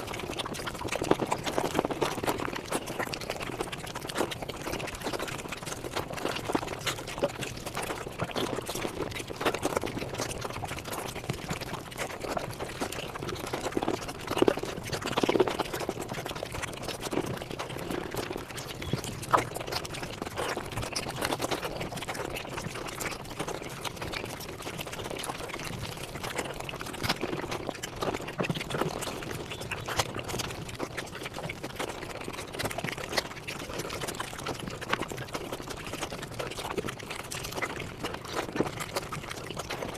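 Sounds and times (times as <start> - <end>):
sped-up chewing and slurping: 0.0 - 39.9.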